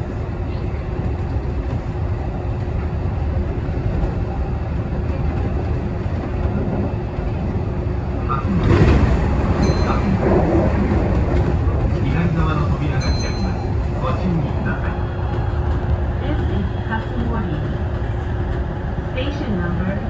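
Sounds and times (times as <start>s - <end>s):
oncoming train passing: 0.0s - 20.0s
train wheels rumbling on rail: 0.0s - 20.0s.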